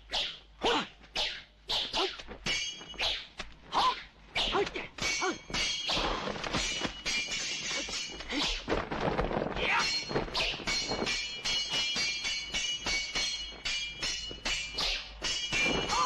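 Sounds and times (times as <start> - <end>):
swords clanging: 1.3 - 8.7, 9.7 - 16.0.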